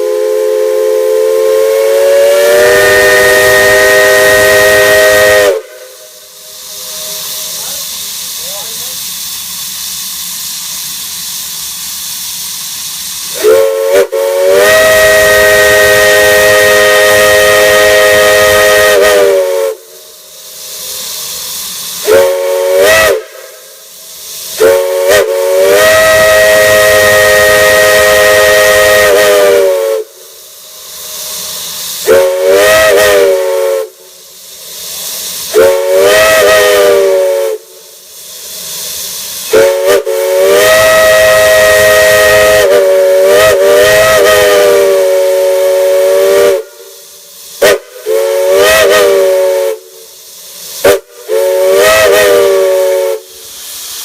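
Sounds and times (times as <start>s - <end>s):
chime steam whistle blasts: 0.0s - 9.0s, 11.1s - 54.0s
steam hissing: 0.0s - 54.0s.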